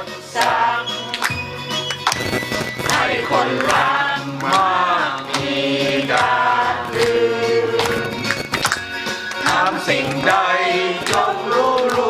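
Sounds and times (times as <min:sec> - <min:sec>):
group singing a celebration song: 0:00.0 - 0:01.3, 0:02.8 - 0:12.0
hand claps: 0:00.3 - 0:12.0.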